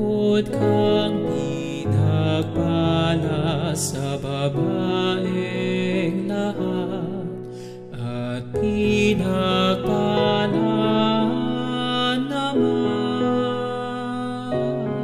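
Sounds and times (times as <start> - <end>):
slow melodic music: 0.0 - 15.0.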